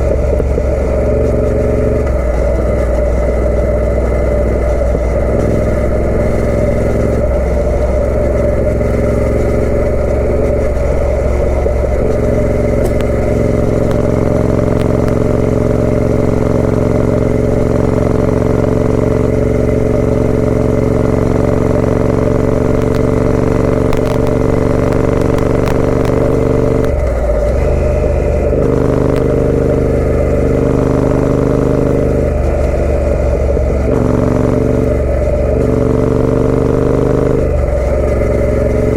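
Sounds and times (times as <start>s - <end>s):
motorcycle engine riding: 0.0s - 38.9s.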